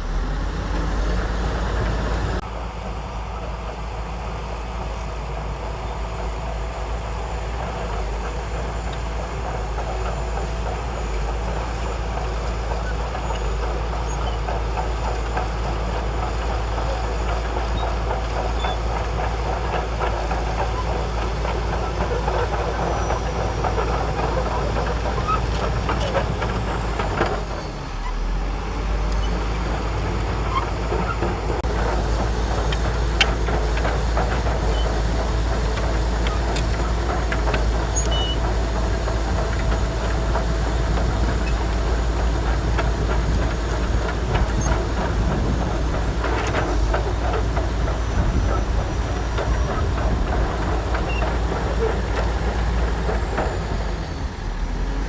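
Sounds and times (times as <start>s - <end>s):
bulldozer diesel engine rumble: 0.0s - 55.0s
steel tracks clattering: 1.7s - 27.9s, 29.2s - 55.0s.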